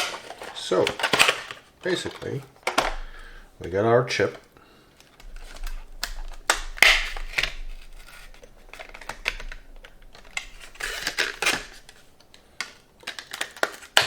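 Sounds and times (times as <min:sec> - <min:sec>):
plastic packaging rustling: 0:00.0 - 0:14.0.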